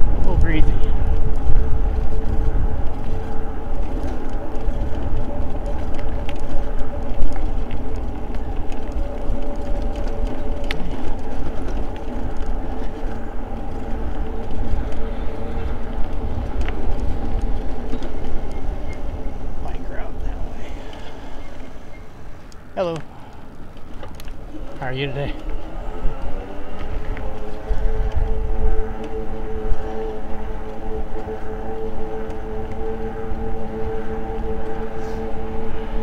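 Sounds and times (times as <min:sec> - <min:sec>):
motor whine: 0:00.0 - 0:36.0
tyre noise: 0:00.0 - 0:36.0
wind rumble on microphone: 0:00.0 - 0:36.0.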